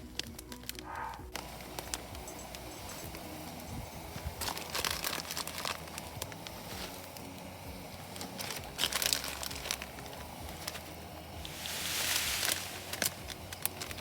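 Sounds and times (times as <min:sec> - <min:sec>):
crinkling and rustling: 0:00.0 - 0:03.3, 0:04.2 - 0:07.2, 0:08.1 - 0:14.0.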